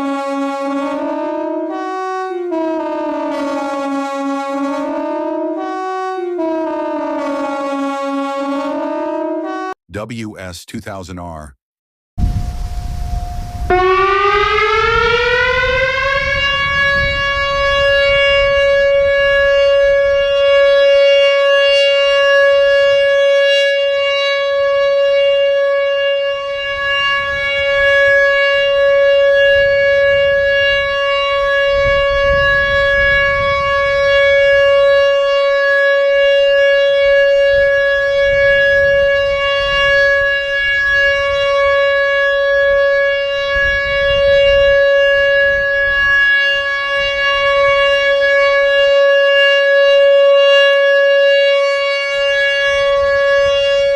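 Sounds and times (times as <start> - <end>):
warning siren: 0.0 - 9.8, 12.2 - 53.9.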